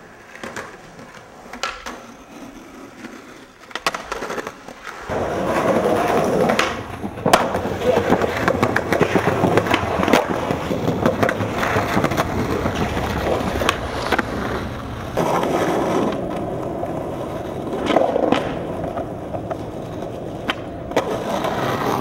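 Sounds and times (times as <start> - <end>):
skateboard wheels rolling on concrete: 0.0 - 22.0
skateboard popping and landing clacks: 0.2 - 22.0.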